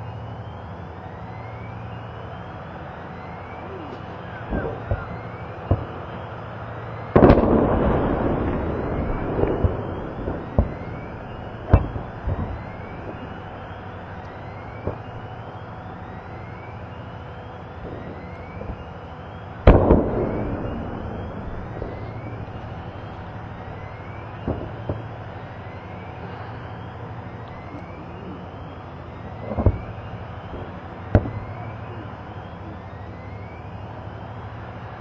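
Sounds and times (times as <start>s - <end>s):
munitions exploding with rumbling tail: 3.2s - 33.9s.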